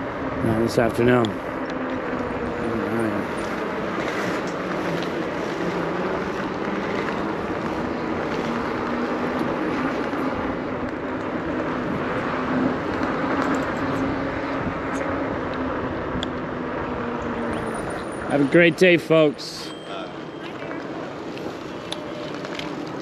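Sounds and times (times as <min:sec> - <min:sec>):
bike tyres rolling: 0:00.0 - 0:23.0.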